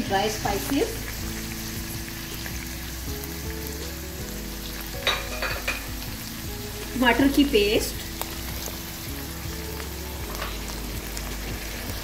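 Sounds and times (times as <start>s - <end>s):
meat and onion sizzling in a pan: 0.0s - 12.0s.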